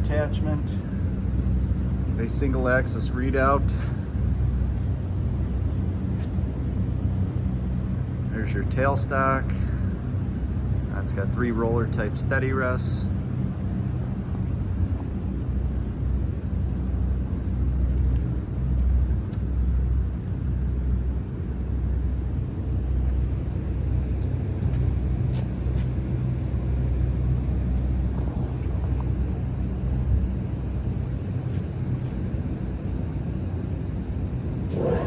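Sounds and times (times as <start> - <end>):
machinery humming: 0.0 - 35.0.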